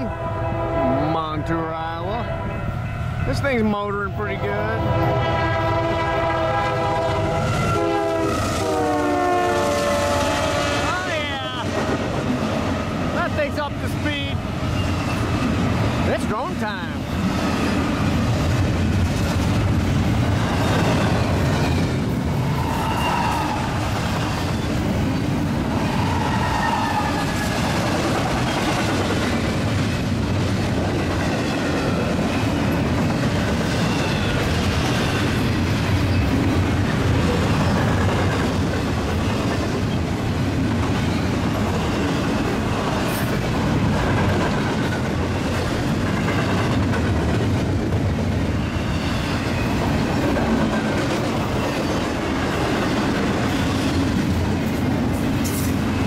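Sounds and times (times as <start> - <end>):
steel wheels rolling on rail: 0.0 - 56.0.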